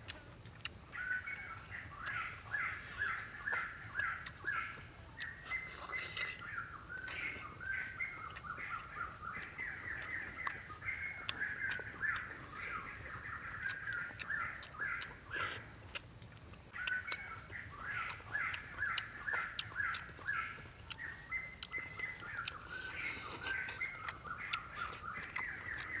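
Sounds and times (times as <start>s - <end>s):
birds calling: 0.9s - 26.0s.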